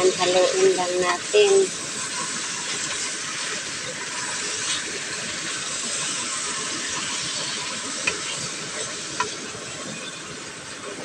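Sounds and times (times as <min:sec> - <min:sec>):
meat sizzling in hot oil: 0:00.0 - 0:10.8.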